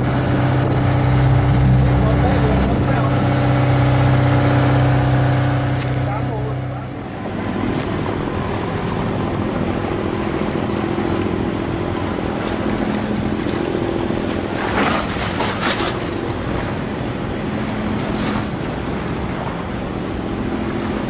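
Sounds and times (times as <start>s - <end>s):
boat engine humming: 0.0s - 21.0s
wind and water noise: 0.0s - 21.0s.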